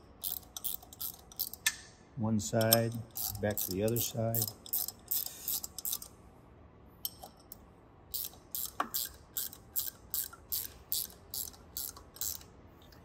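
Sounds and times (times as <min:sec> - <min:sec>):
ratchet wrench clicking: 0:00.0 - 0:01.8, 0:02.6 - 0:06.1, 0:07.0 - 0:12.5.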